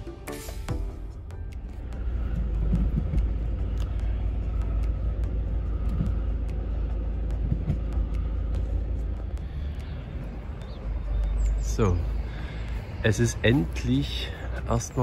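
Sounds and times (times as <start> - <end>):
car rumbling from inside cabin: 1.5 - 15.0.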